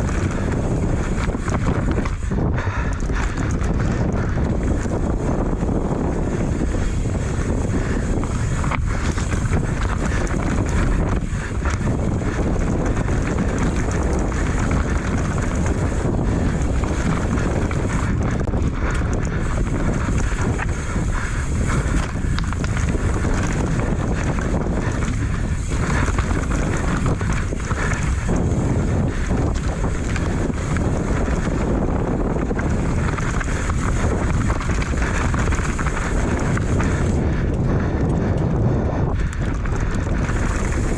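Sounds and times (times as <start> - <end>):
tyres rumbling: 0.0 - 40.9
wind rushing over microphone: 0.0 - 40.9.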